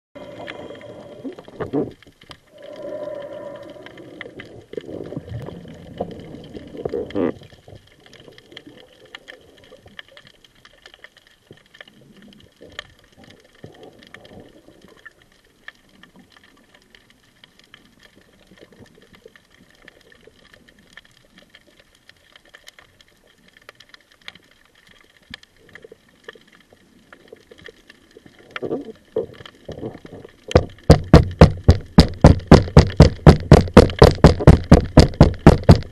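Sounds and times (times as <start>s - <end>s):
underwater knocks and rumbles: 0.2s - 21.7s, 23.5s - 35.9s
crackle of faint clicks: 0.2s - 30.9s.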